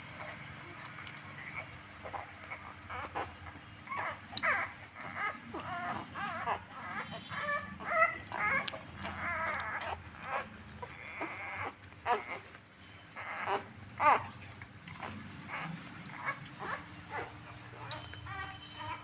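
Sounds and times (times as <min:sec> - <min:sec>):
puppies whimpering and squeaking: 0:00.0 - 0:19.0.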